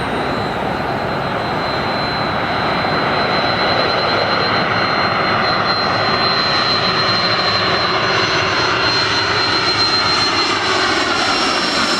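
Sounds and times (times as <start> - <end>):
high engine whine: 0.0 - 11.9
jet engines roaring: 0.0 - 11.9.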